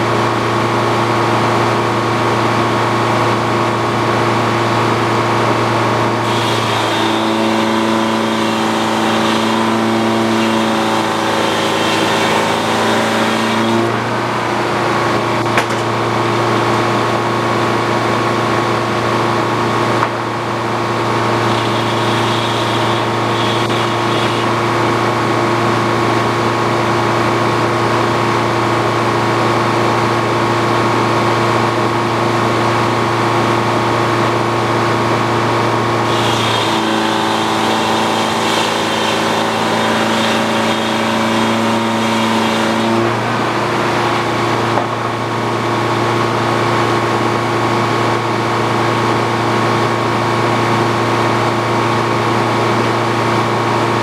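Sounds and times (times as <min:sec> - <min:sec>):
sawmill droning: 0:00.0 - 0:54.0.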